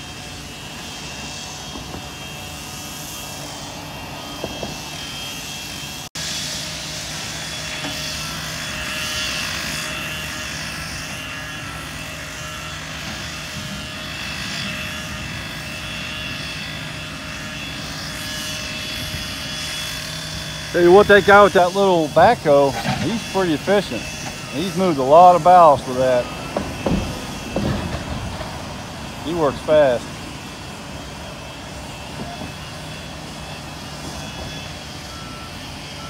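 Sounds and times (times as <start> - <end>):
diesel engines droning: 0.0 - 36.0.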